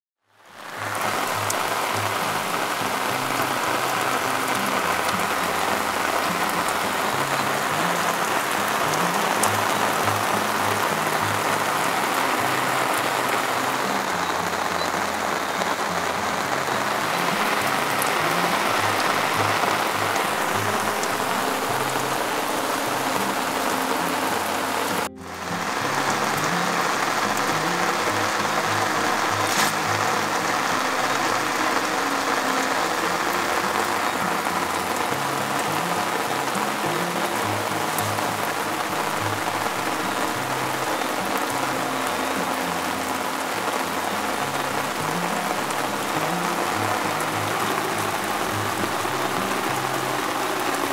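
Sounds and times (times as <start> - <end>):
rain falling on grass: 0.3 - 50.9.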